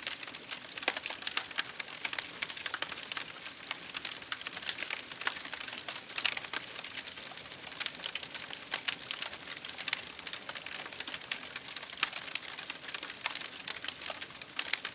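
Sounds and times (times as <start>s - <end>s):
soft steady hiss: 0.0s - 14.9s
wood fire crackling: 0.0s - 14.9s.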